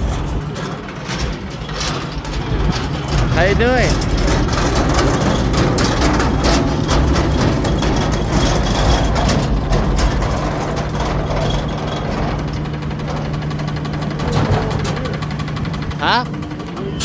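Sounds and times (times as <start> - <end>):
clanking and rattling: 0.0 - 17.0
truck diesel engine idling: 0.0 - 17.0.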